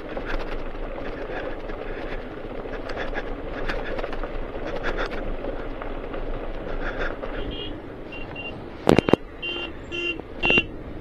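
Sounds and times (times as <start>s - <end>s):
motorcycle rattling over bumps: 0.0s - 11.0s
motorcycle riding on gravel: 0.0s - 11.0s.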